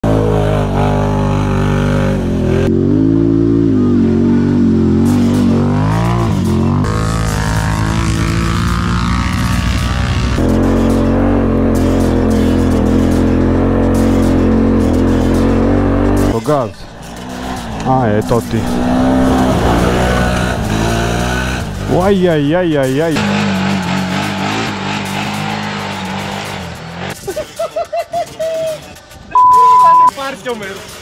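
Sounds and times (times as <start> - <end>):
atv engines revving hard: 0.0 - 27.3.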